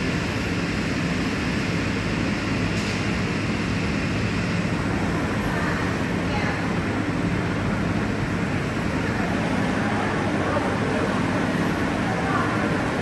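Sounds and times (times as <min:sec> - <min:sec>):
train rumbling and hissing: 0:00.0 - 0:13.0.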